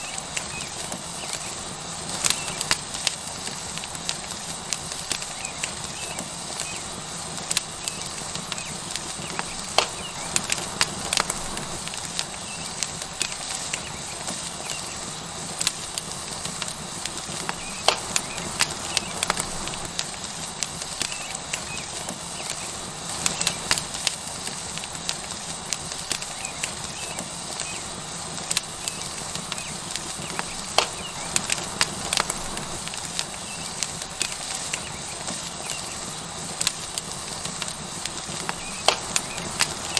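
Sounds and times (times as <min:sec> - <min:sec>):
steak sizzling on hot rock: 0:00.0 - 0:39.9.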